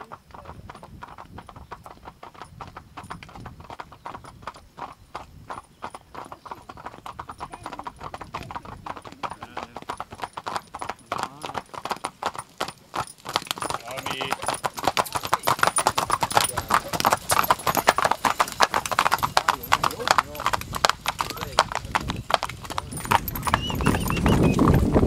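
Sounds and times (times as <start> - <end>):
horse hooves trotting on asphalt: 0.0 - 25.0.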